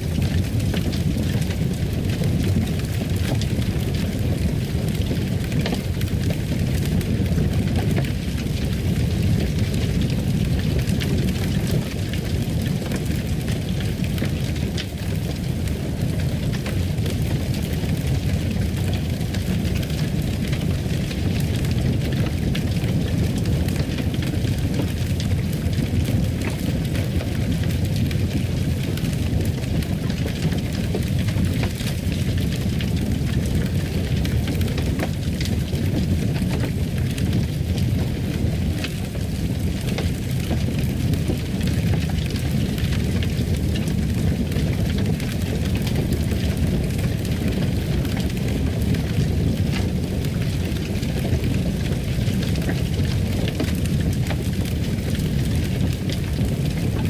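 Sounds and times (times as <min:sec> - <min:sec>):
fire popping and crackling: 0:00.0 - 0:57.0
low rumble of flames: 0:00.0 - 0:57.0.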